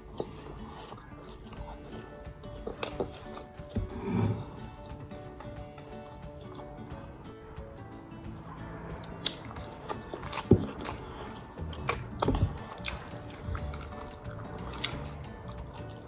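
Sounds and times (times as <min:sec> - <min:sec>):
noodles slurped and chewed: 0:00.0 - 0:06.8, 0:08.4 - 0:16.0.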